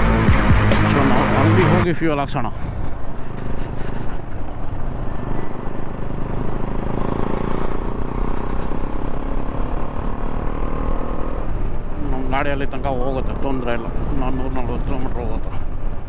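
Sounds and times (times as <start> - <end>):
motorcycle engine running: 0.0 - 1.9, 2.9 - 16.0.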